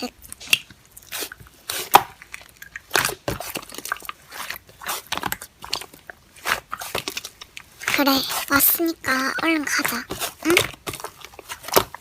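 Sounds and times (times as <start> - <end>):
slime squished crackling: 0.0 - 12.0.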